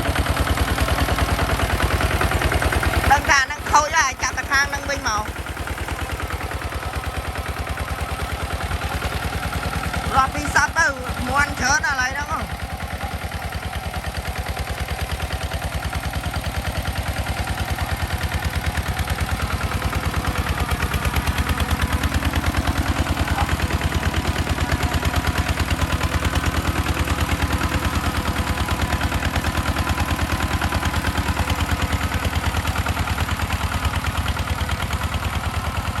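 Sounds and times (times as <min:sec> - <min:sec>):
tractor engine chugging: 0:00.0 - 0:36.0.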